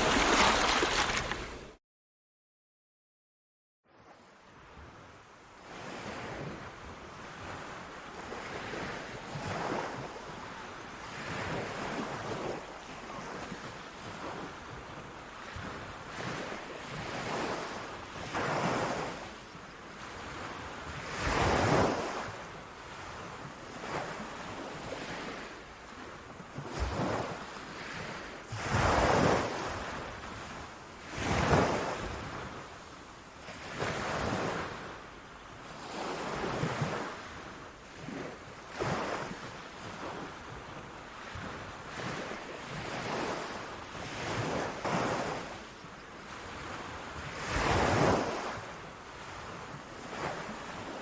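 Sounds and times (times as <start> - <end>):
ocean waves breaking on shore: 0.0 - 1.8, 4.0 - 51.0.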